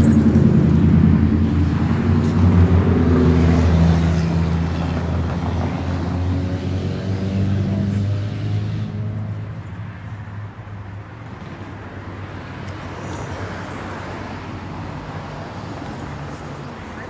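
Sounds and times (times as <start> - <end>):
rushing background noise: 0.0 - 17.0.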